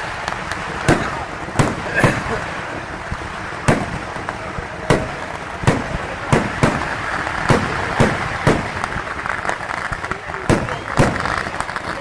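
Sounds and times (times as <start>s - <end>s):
continuous noisy din: 0.0s - 12.0s
fireworks bangs: 0.0s - 12.0s.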